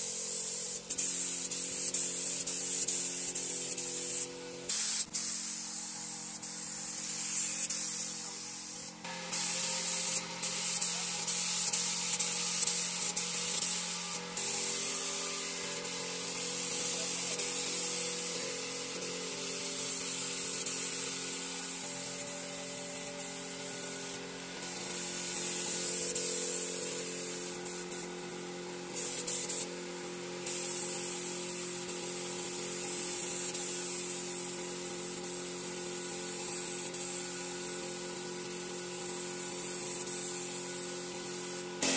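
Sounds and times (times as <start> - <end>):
air spray gun hissing: 0.0 - 41.9.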